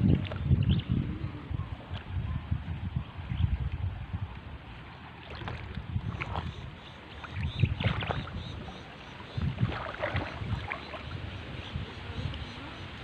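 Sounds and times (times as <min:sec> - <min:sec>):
wind buffeting microphone: 0:00.0 - 0:13.0
water splashing from wading: 0:01.4 - 0:13.0.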